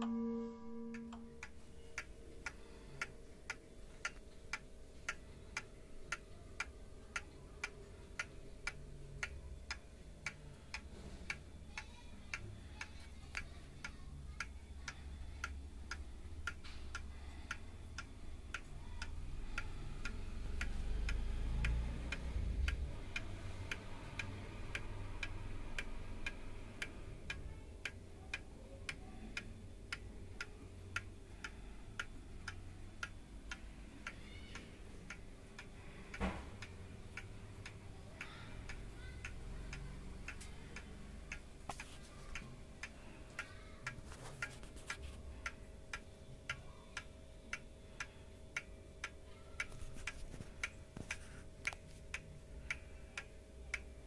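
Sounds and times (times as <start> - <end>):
wall clock ticking: 0.0 - 54.0.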